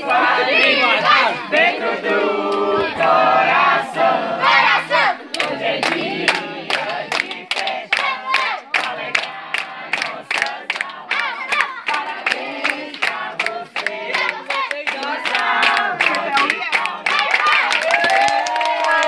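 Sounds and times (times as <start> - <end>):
many voices singing together: 0.0 - 17.8
crowd clapping in time: 0.1 - 2.7, 5.2 - 19.0.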